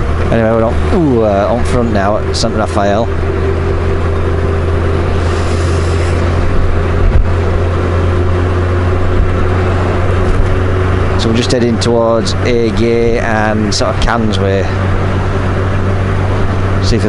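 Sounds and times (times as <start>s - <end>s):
motorcycle engine humming: 0.0s - 17.0s
wind and road noise: 0.0s - 17.0s.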